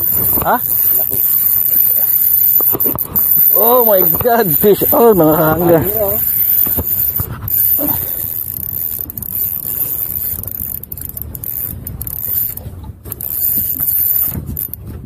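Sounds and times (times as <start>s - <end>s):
spinning reel being wound: 0.0s - 14.9s
wind buffeting microphone: 0.0s - 15.0s.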